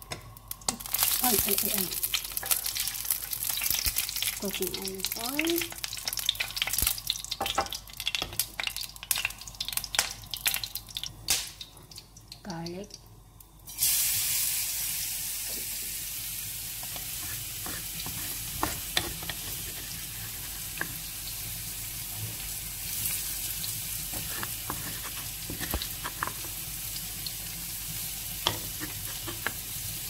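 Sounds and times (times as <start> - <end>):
garlic sizzling in hot oil: 0.0 - 12.8, 13.6 - 30.0.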